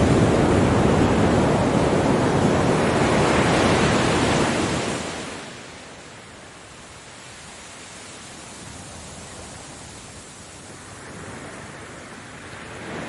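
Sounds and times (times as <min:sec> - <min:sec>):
ocean waves washing on beach: 0:00.0 - 0:13.0.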